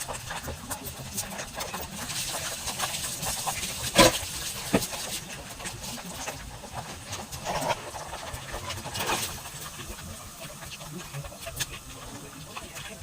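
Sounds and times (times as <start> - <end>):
sizzling in a cooking pot: 0.0 - 13.0.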